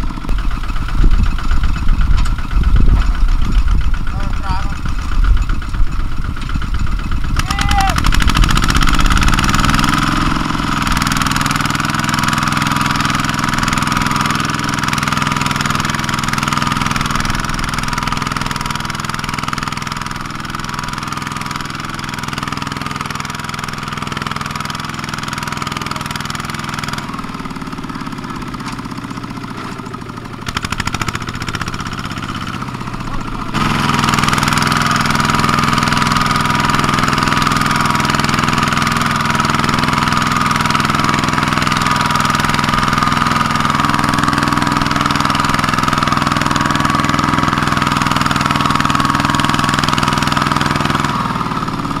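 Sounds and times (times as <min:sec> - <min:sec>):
single-cylinder diesel engine running: 0:00.0 - 0:52.0.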